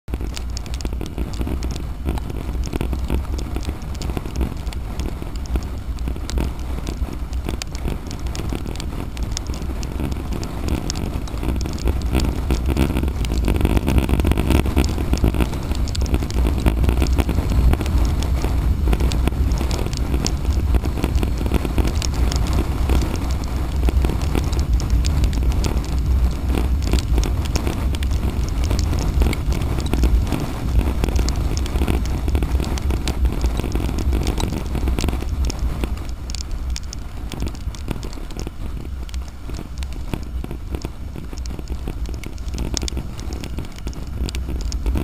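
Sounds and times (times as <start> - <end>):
raindrops crackling on camera: 0.0 - 45.0
road noise: 0.0 - 45.0
wind rumbling on microphone: 0.0 - 45.0.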